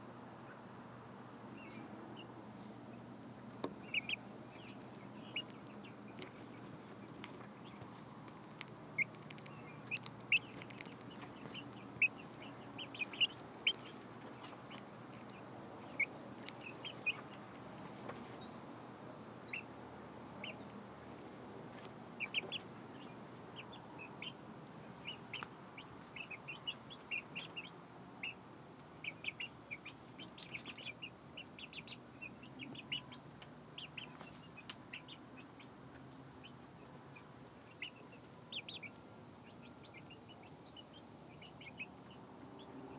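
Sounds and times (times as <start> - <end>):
chicks peeping: 1.4 - 18.6, 19.4 - 19.7, 20.4 - 20.8, 21.7 - 42.9.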